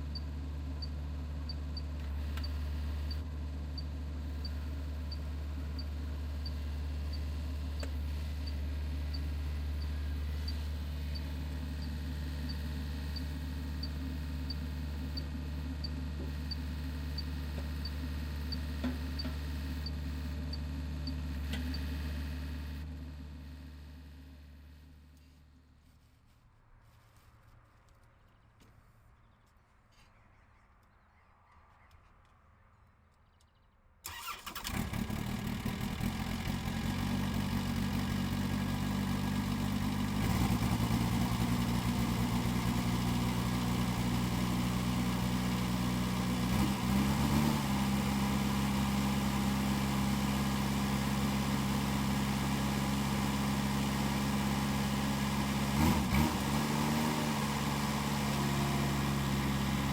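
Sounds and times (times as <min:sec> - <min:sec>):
diesel engine starting and running: 0:00.0 - 0:25.4, 0:34.0 - 0:59.9.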